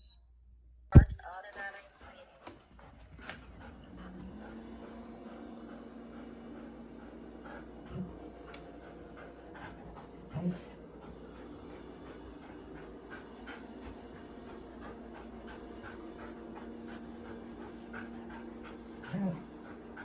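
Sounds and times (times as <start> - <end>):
dog panting: 1.7 - 20.0
robot vacuum humming: 3.7 - 20.0.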